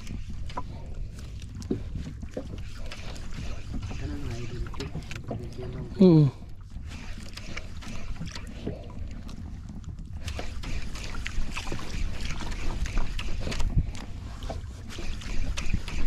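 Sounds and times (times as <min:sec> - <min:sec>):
water lapping against boat: 0:00.0 - 0:16.0.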